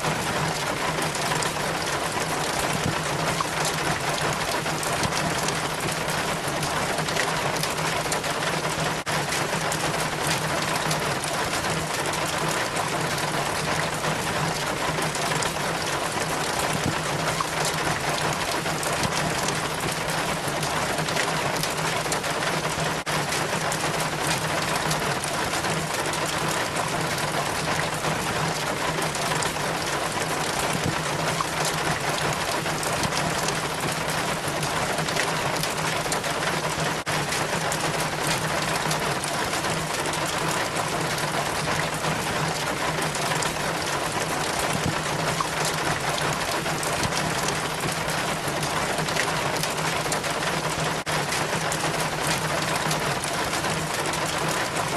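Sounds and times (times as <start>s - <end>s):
water trickling down a rain chain: 0.0s - 54.9s.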